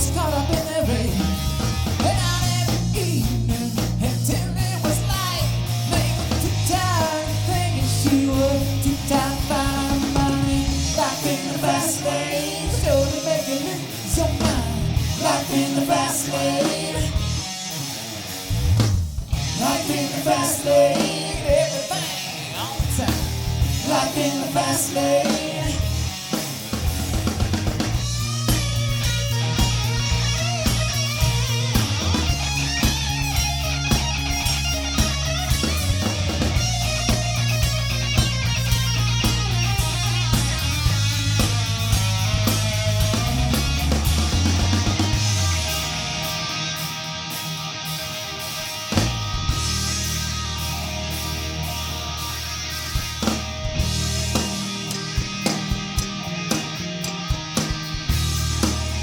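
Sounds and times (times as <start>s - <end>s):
bass line: 0.0s - 59.0s
live rock band playing: 0.0s - 59.0s.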